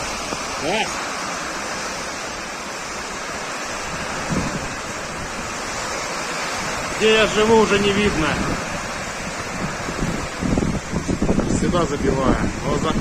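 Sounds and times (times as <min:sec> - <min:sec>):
heavy rain: 0:00.0 - 0:13.0
wind: 0:00.0 - 0:13.0.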